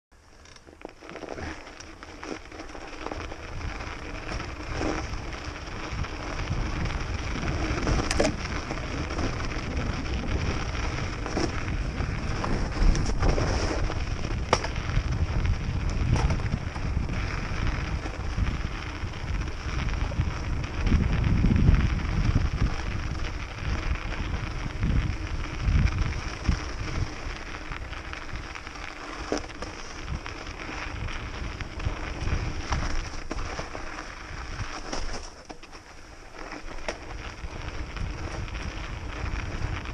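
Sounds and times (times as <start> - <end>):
low riding rumble: 1.1 - 39.9
wind buffeting microphone: 2.2 - 34.9, 37.0 - 39.9.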